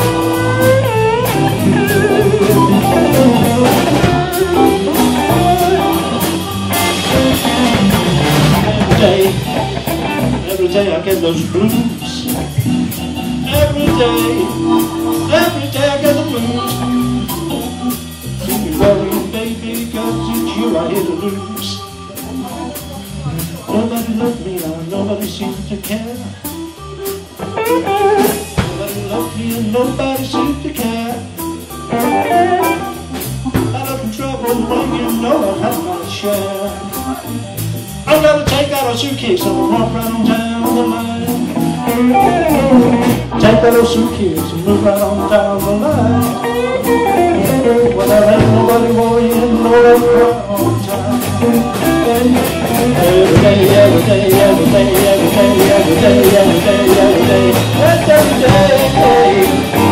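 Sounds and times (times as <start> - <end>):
live blues band playing: 0.0 - 59.9.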